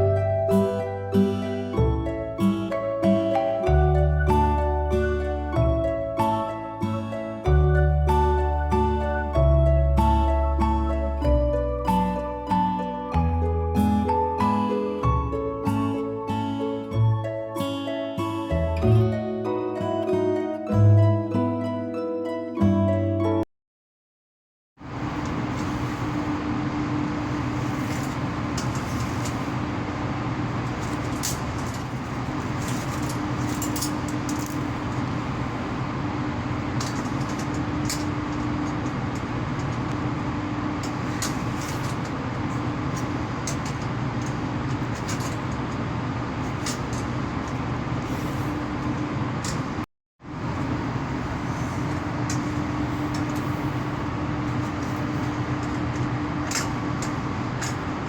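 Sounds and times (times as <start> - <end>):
electrical hum from cables: 0.0 - 20.9, 24.8 - 58.0.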